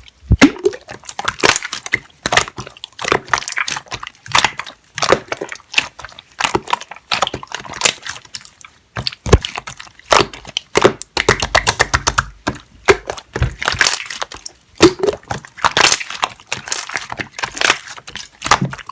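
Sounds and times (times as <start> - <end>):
slime squeezed with sticky pops: 0.2 - 18.9.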